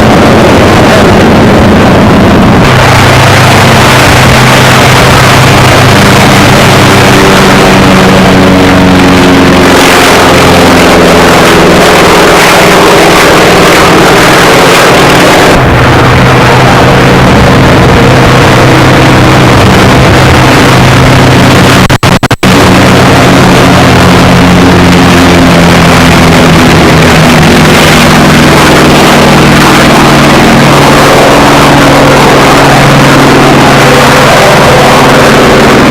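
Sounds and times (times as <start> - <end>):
piston aircraft engine running: 0.0 - 35.9.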